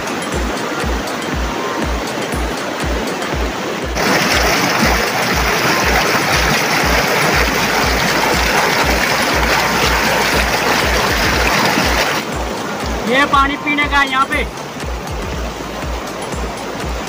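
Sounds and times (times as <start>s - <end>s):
stream rushing over rocks: 0.0s - 17.0s
thumping bass beat of music: 0.0s - 17.0s.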